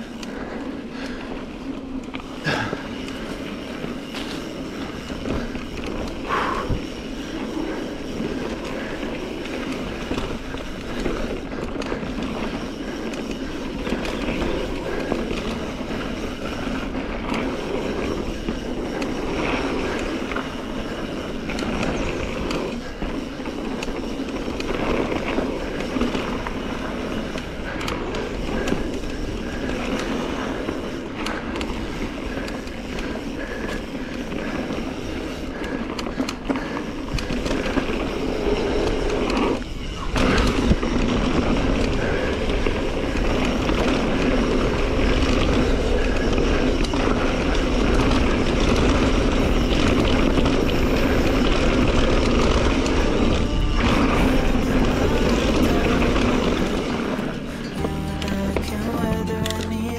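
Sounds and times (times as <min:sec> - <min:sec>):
bike rattling and knocking: 0:00.0 - 0:58.0
bike tyres on dirt: 0:00.0 - 0:59.9.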